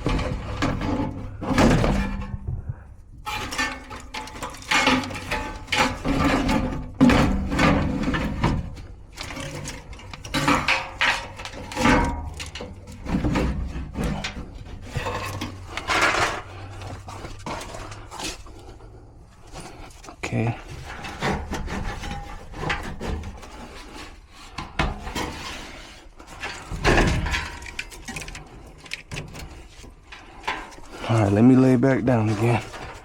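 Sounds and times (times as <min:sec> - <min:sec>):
rubbing scraping and knocking: 0:00.0 - 0:33.0.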